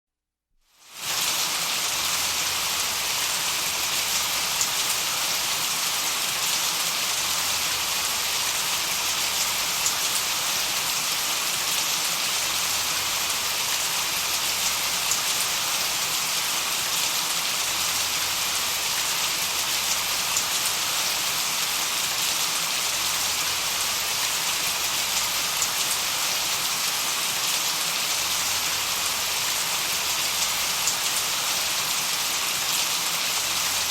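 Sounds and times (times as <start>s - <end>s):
steady hissing noise: 0.7s - 33.9s.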